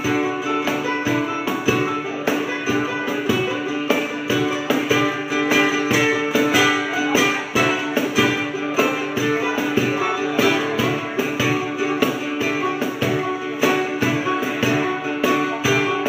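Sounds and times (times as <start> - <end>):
banjo picking: 0.0 - 16.0
cajon knocking a beat: 0.0 - 16.0
guitar picking: 0.0 - 16.0.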